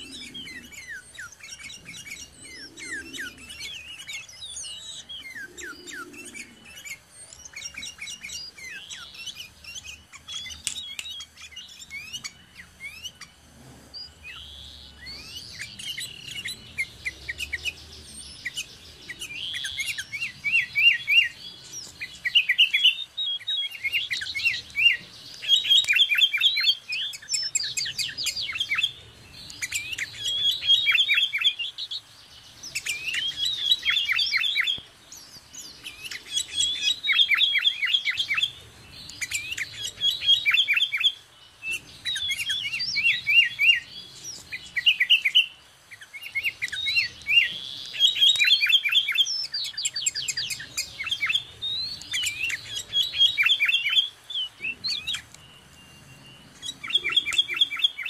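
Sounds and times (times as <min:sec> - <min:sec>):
bulbul singing whistled notes: 0:00.0 - 0:13.4, 0:14.0 - 0:58.0.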